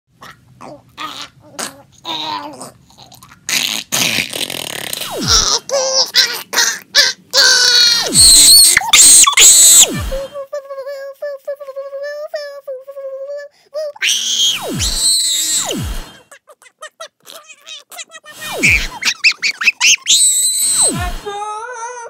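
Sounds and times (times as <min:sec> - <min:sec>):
boy making silly vocal noises: 0:00.3 - 0:22.0.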